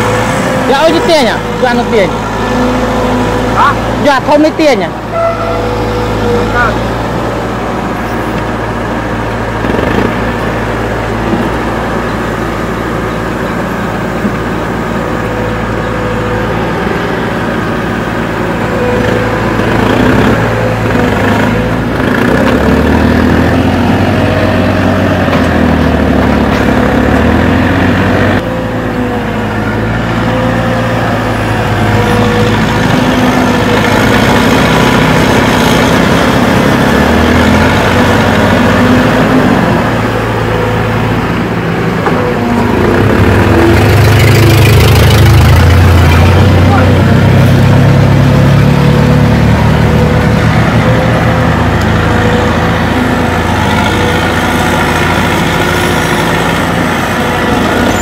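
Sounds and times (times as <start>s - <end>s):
excavator diesel engines working: 0.0s - 58.0s.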